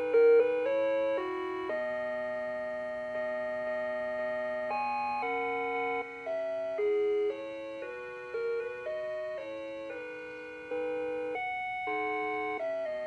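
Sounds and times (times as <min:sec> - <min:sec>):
tinny bell-like melody: 0:00.0 - 0:13.0.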